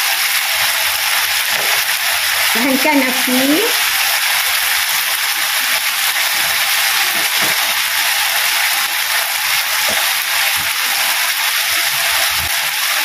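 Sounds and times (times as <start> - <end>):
chicken sizzling in a wok: 0.0 - 13.0.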